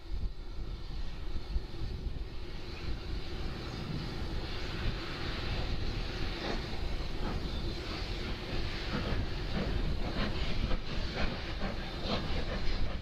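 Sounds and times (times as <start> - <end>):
hiss: 0.0 - 13.0
train rumbling: 0.0 - 13.0.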